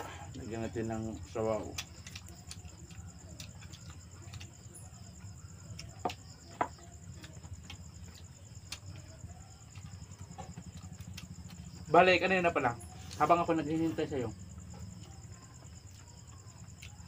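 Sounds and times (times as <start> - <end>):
crickets chirping: 0.0 - 17.0
people eating by hand: 0.0 - 17.0.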